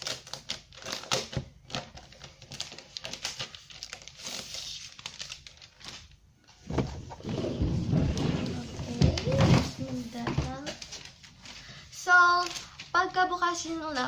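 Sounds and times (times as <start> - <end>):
plastic wrap crinkling: 0.0 - 6.6, 7.5 - 14.0.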